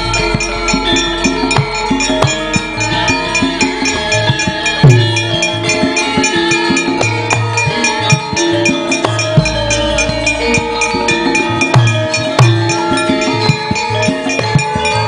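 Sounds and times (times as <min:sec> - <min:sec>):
gamelan music: 0:00.0 - 0:15.0
sharp beat clicks: 0:00.0 - 0:15.0.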